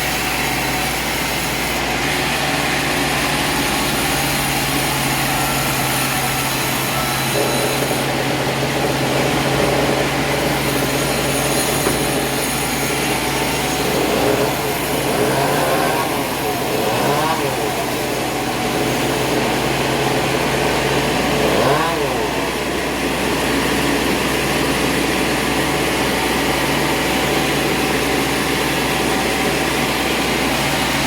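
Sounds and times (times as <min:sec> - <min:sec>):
machine humming and whirring: 0:00.0 - 0:31.0.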